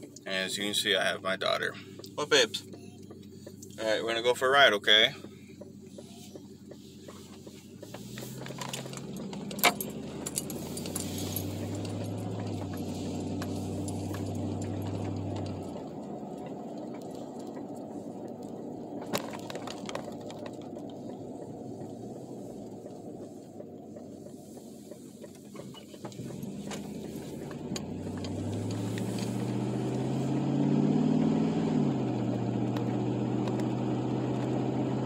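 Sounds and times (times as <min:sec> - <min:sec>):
truck engine droning: 0:00.0 - 0:35.0.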